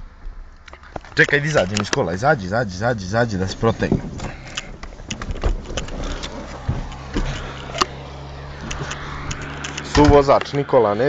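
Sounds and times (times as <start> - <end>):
car engine idling: 0.7 - 10.8.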